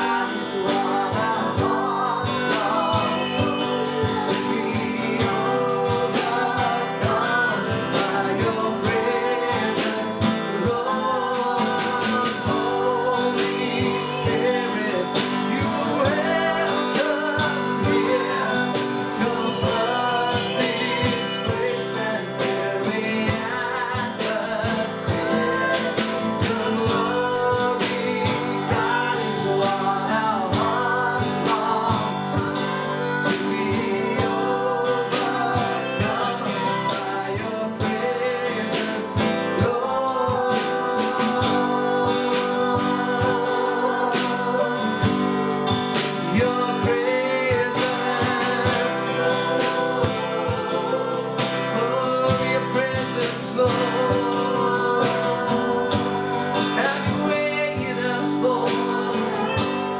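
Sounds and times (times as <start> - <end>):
person singing: 0.0 - 59.9
strummed guitar: 0.0 - 59.9.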